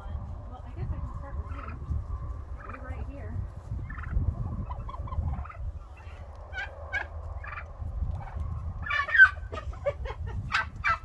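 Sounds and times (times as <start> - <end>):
turkeys calling: 0.2 - 11.0.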